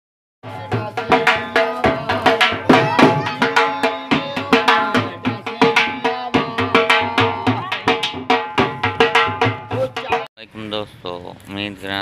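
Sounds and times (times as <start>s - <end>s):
barrel drum beaten with stick: 0.4s - 10.3s.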